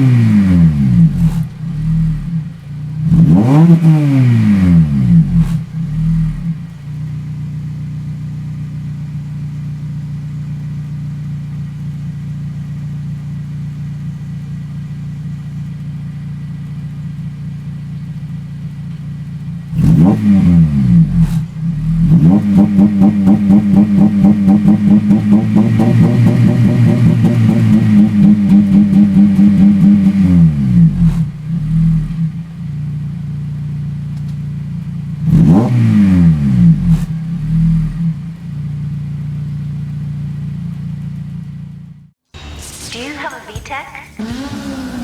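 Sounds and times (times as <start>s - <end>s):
car engine throttle blips: 0.0s - 45.0s
car engine idling: 0.7s - 3.7s, 4.8s - 35.6s, 36.4s - 43.5s, 44.2s - 45.0s.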